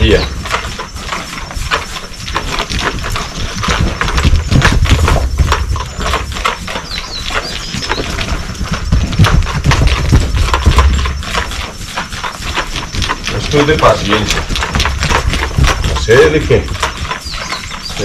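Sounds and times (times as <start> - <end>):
hoofbeats of trotting colt: 0.0 - 18.0.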